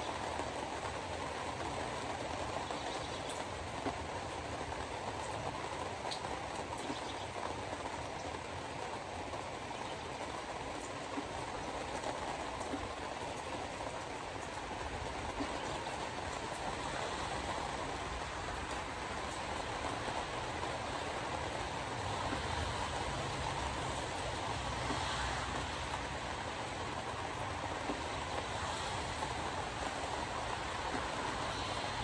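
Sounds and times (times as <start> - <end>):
rain on car: 0.0 - 32.0
tyres on wet pavement: 0.0 - 32.0.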